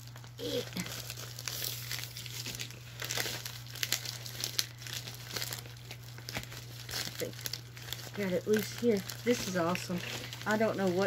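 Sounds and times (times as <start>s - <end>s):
bubble mailer crinkling: 0.0s - 11.0s.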